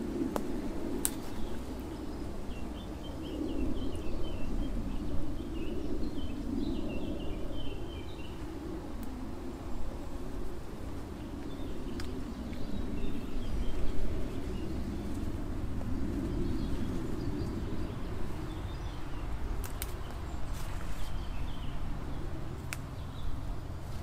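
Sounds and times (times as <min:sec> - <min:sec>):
birds chirping faintly: 0:00.0 - 0:24.0
steady low rumble: 0:00.0 - 0:24.0.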